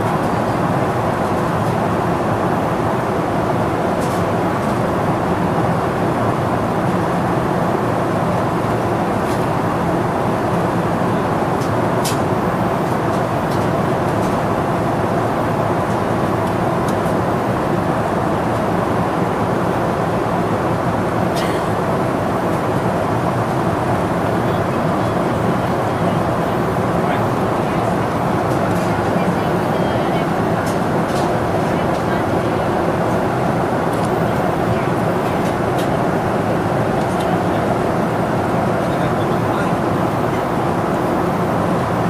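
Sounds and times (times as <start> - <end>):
airliner engines and airflow rumble: 0.0 - 42.0.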